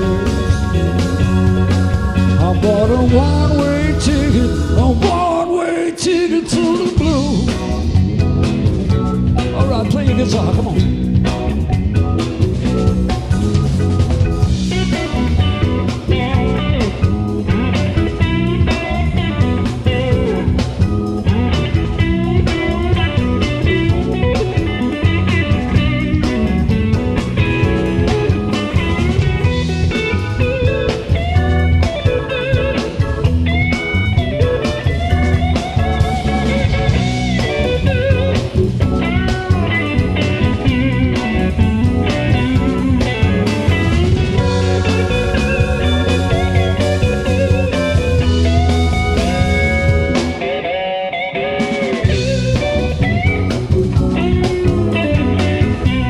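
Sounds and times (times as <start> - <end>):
guitar solo with bent notes: 0.0 - 56.0
live blues band playing: 0.0 - 56.0.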